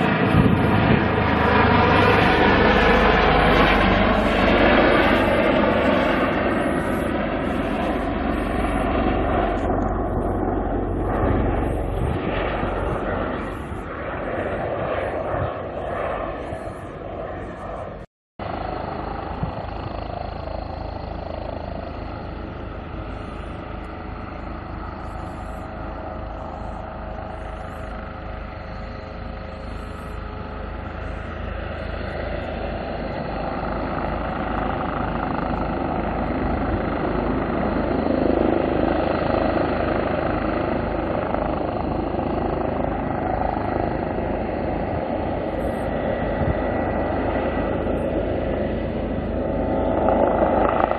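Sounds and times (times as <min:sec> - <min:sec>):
helicopter in flight: 0:00.0 - 0:50.9.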